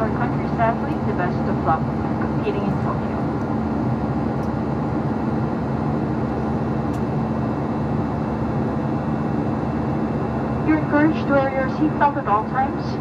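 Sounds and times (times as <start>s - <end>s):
jet engine buzz: 0.0s - 13.0s.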